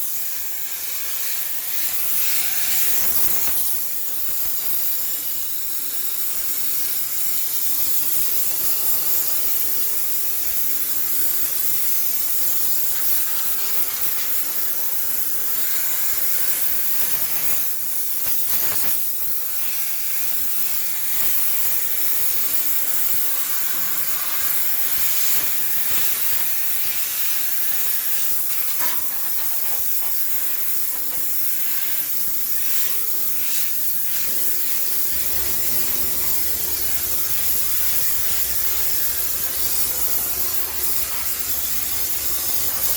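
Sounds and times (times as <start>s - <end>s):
steam jetting hiss: 0.0s - 42.9s.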